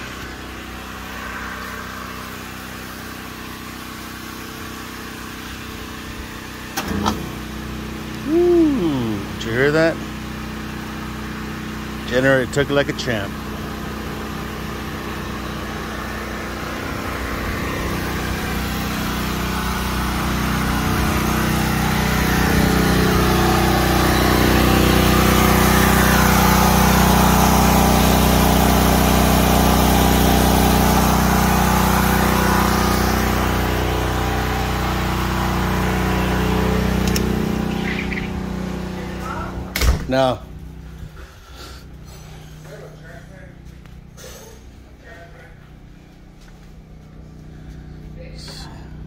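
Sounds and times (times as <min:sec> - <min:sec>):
generator engine running: 0:00.0 - 0:49.0.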